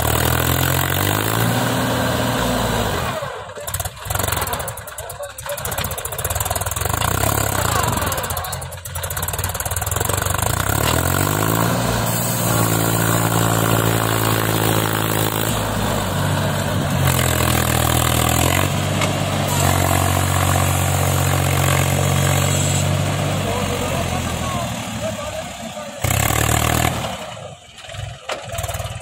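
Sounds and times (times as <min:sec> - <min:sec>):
tractor diesel engine labouring: 0:00.0 - 0:29.0.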